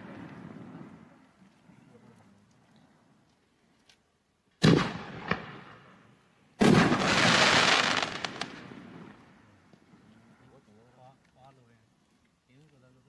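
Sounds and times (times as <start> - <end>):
crackling hiss of burning stars: 0.0 - 13.0.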